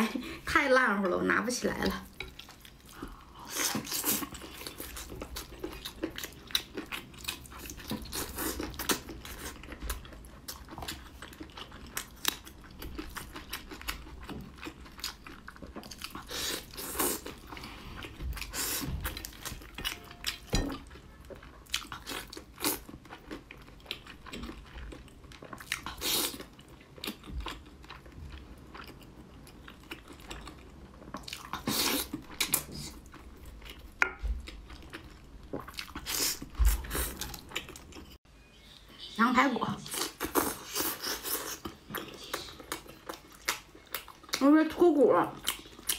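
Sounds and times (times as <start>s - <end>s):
person chewing meat: 2.1s - 38.2s, 39.9s - 44.4s, 45.4s - 45.9s.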